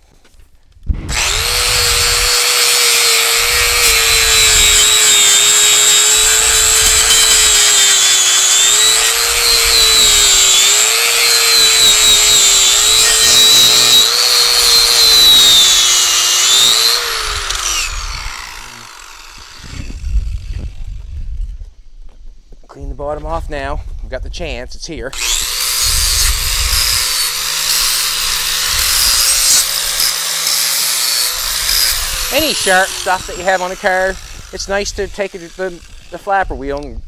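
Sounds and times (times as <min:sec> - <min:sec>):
angle grinder cutting steel: 0:01.0 - 0:20.7, 0:25.1 - 0:36.4.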